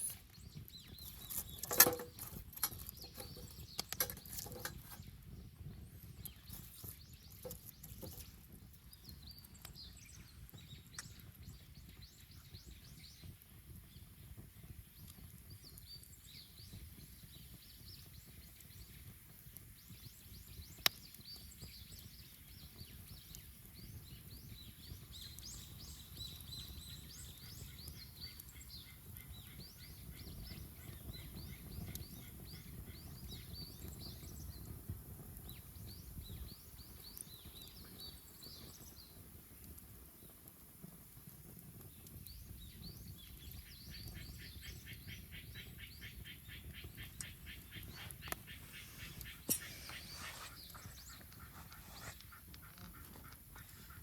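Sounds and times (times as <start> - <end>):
bonfire crackling: 0.0 - 54.0
fire popping: 0.0 - 54.0
small birds chirping: 0.0 - 54.0.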